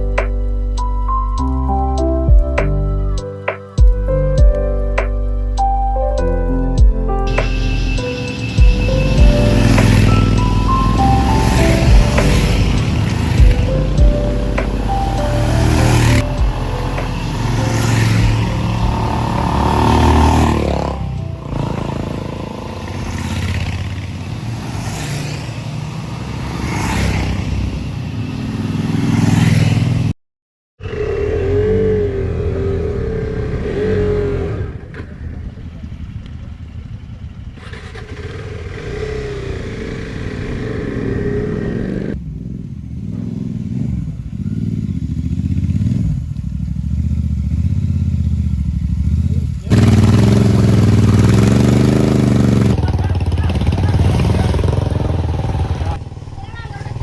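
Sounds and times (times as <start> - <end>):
wind and road noise: 0.0 - 30.2, 30.8 - 57.0
motorcycle engines running: 5.6 - 30.1, 30.8 - 57.0.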